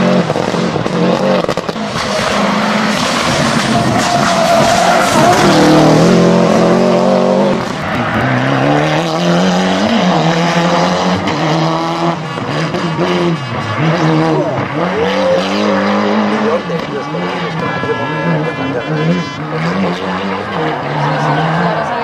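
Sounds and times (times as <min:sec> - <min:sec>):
rally car engines accelerating: 0:00.0 - 0:22.0.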